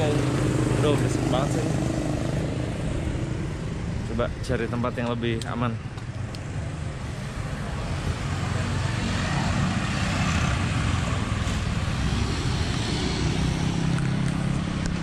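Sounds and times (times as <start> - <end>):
vehicle engine running close by: 0.0 - 5.2, 7.6 - 15.0
steady traffic noise: 0.0 - 15.0.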